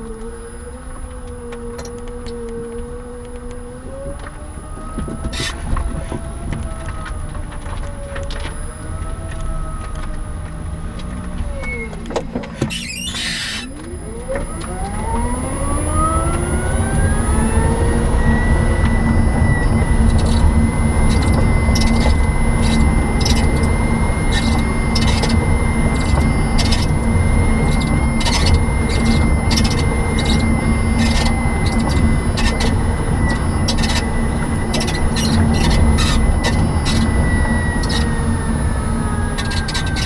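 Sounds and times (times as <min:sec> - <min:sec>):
electric motor whining: 0:00.0 - 0:40.0
road and tyre rumble: 0:00.0 - 0:40.0.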